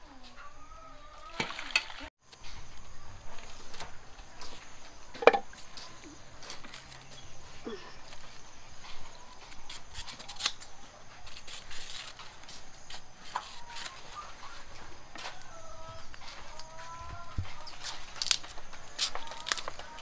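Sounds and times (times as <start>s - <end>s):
chickens clucking: 0.0s - 11.2s, 13.0s - 20.0s.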